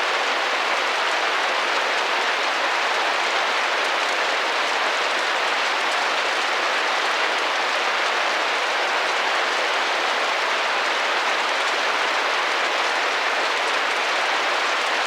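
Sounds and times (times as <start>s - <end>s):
rain pattering on a window: 0.0s - 15.0s.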